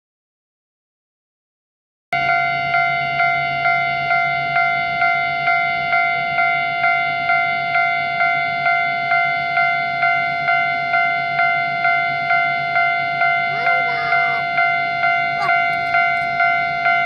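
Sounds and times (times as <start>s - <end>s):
level crossing warning bell: 2.2s - 17.0s.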